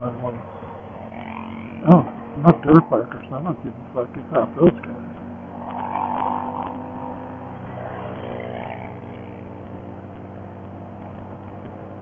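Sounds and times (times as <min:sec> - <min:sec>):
motorcycle engine running: 0:00.0 - 0:12.0
vehicles passing: 0:00.0 - 0:12.0.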